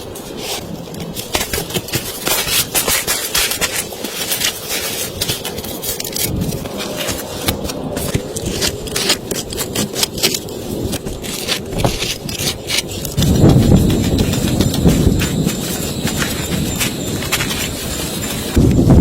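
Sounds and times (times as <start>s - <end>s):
rain pattering on tent fabric: 0.0s - 19.0s.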